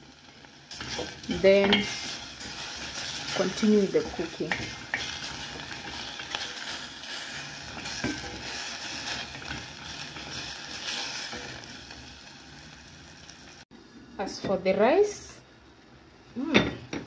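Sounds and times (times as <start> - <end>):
beef sizzling in a pan: 0.0 - 17.0.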